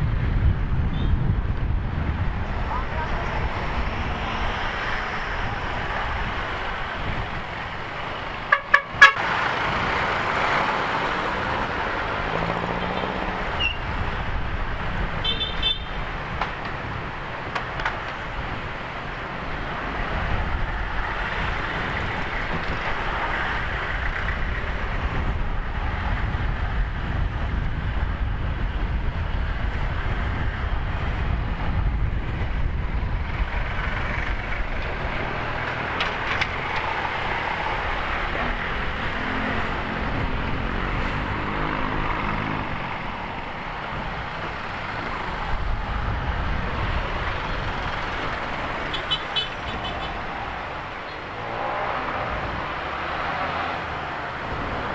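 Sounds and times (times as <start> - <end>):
road noise: 0.0 - 54.9
traffic: 0.0 - 54.9
wind rumble on microphone: 0.0 - 54.9.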